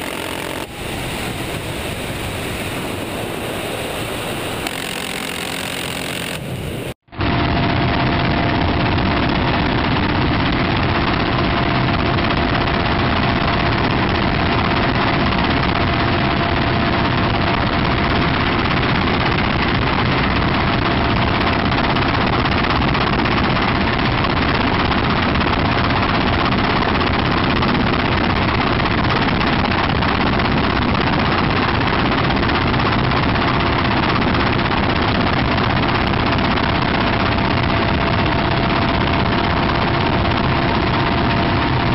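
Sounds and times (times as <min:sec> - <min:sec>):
constant whining tones: 0:00.0 - 0:41.9
helicopter engines and rotor drone: 0:00.0 - 0:41.9.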